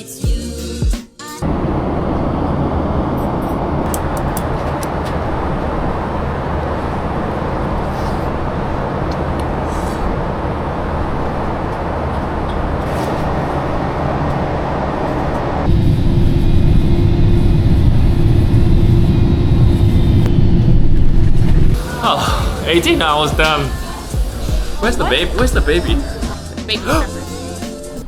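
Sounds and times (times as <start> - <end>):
airliner cabin roar: 1.4 - 27.1
low hum: 1.4 - 27.2.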